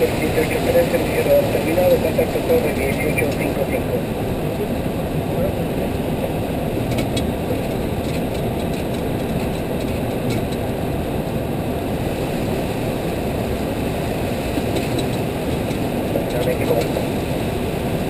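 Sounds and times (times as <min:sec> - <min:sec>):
aircraft cockpit air and engine rush: 0:00.0 - 0:18.0.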